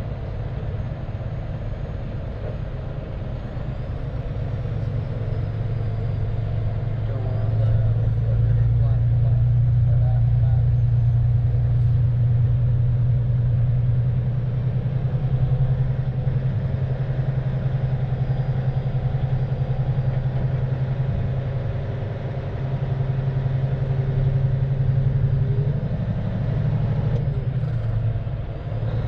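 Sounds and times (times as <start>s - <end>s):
diesel truck engine humming: 0.0s - 29.0s.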